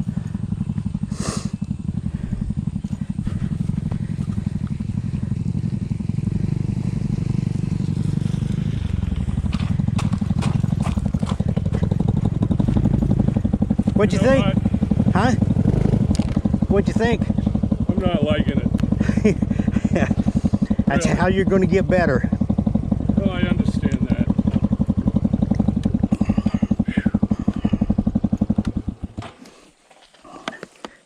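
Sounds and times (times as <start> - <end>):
motorcycle engine running: 0.0 - 29.3.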